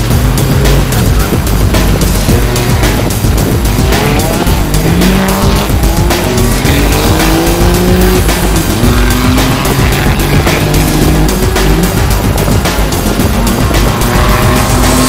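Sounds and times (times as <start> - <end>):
music: 0.0 - 15.0
racing car engines accelerating: 0.0 - 15.0.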